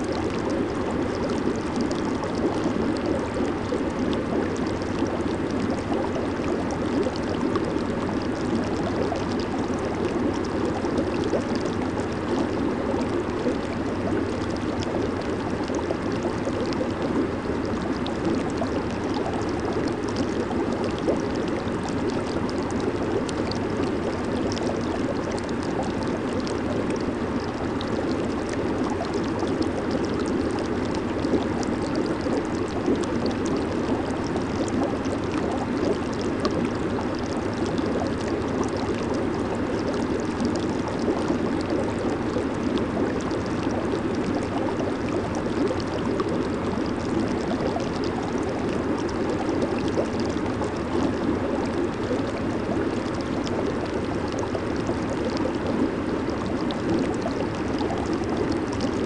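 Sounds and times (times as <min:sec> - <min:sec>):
bubbles popping: 0:00.0 - 0:59.0
hot tub jets churning water: 0:00.0 - 0:59.0.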